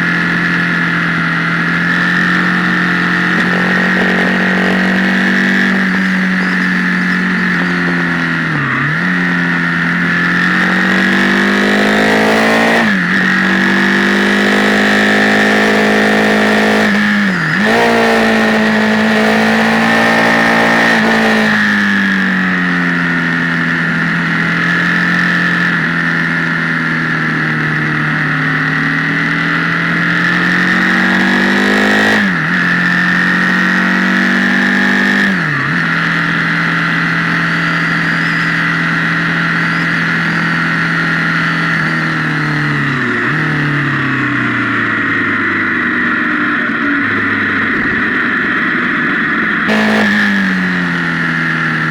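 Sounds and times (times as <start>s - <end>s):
steady high whine: 0.0s - 34.7s, 35.3s - 51.9s
motorcycle engine revving: 0.0s - 51.9s.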